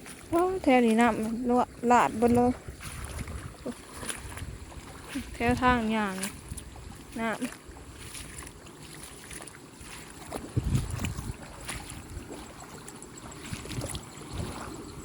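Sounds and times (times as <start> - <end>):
water flowing and sloshing: 0.0 - 15.0
wind on microphone: 0.4 - 8.6, 10.2 - 15.0.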